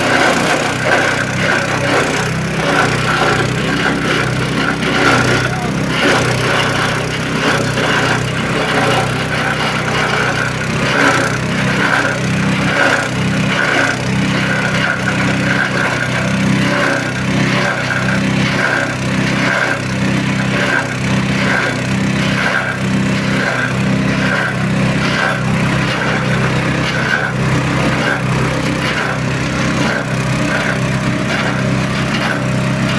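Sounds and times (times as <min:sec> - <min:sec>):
shredding machine humming: 0:00.0 - 0:32.9.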